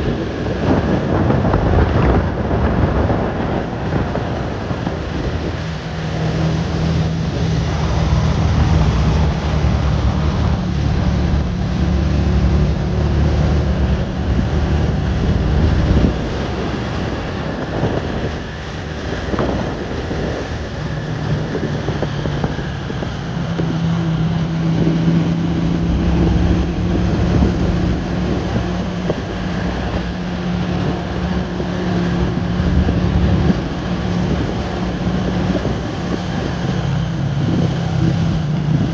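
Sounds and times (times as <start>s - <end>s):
vehicle engine running: 0.0s - 38.9s
wind noise on microphone: 0.0s - 38.9s.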